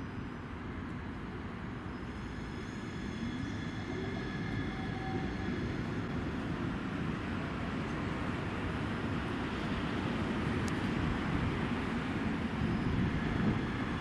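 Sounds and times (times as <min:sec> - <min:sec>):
city traffic noise: 0:00.0 - 0:14.0
tram running rumble: 0:00.0 - 0:14.0.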